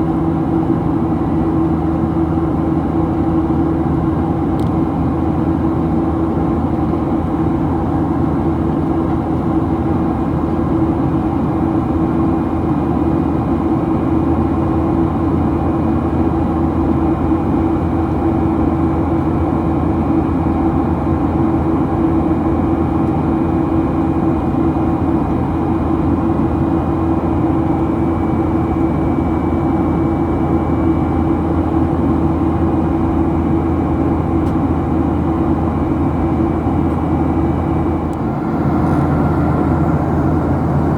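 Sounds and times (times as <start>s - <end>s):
airliner cabin drone: 0.0s - 40.9s
constant low hum: 0.0s - 40.9s.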